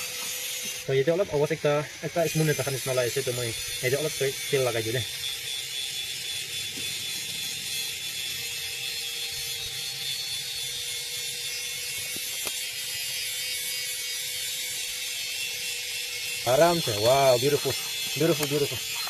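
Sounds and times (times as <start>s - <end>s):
electric drill running: 0.0s - 19.0s.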